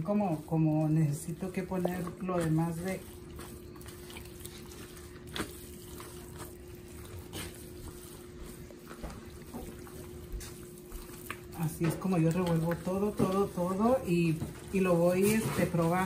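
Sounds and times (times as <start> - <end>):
hands squelching wet dough: 0.0 - 16.0.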